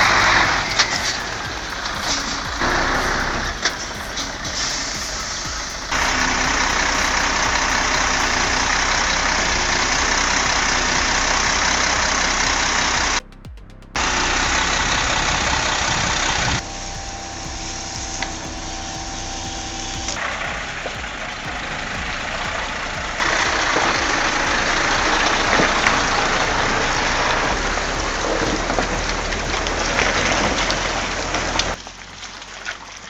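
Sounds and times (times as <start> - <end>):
heavy vehicle engines running: 0.0 - 33.0
steady whine: 0.0 - 33.0.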